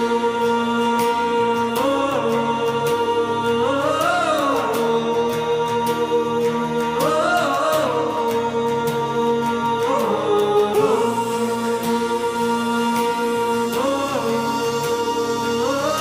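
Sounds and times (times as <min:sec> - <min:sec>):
sung melody over drone and beat: 0:00.0 - 0:16.0.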